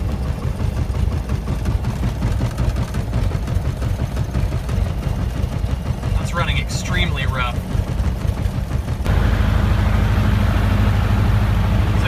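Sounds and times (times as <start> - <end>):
rough piston engine idling: 0.0 - 12.0.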